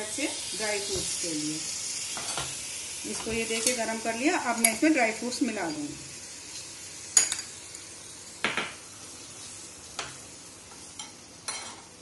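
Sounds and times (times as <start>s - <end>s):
honey sizzling in a metal ladle: 0.0s - 12.0s.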